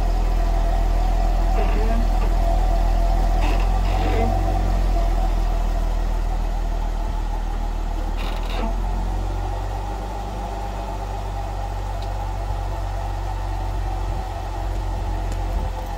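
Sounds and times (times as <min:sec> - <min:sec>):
car engine low drone: 0:00.0 - 0:15.9.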